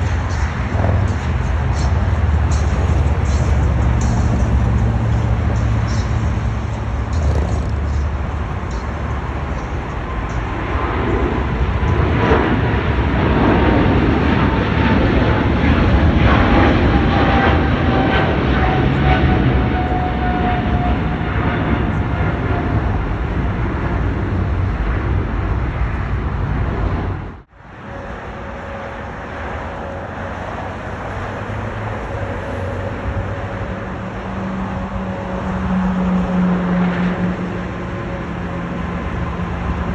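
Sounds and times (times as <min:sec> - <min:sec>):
jet airliner passing: 0:00.0 - 0:39.9.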